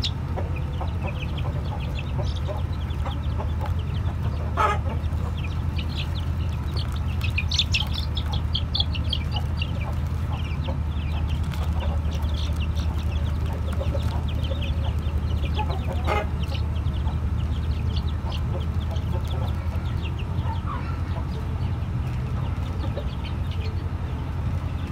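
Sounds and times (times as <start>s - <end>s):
chicks peeping and chirping: 0.0s - 24.9s
steady low hum: 0.0s - 24.9s.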